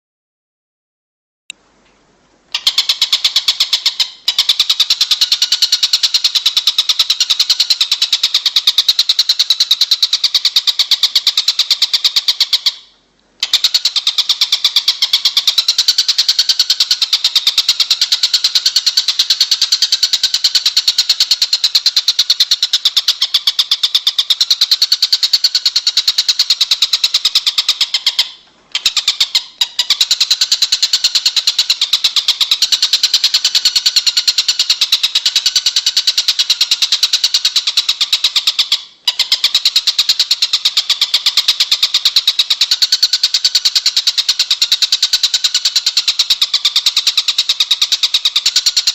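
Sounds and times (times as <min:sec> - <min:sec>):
songbird buzzy trill: 0:02.4 - 0:48.9.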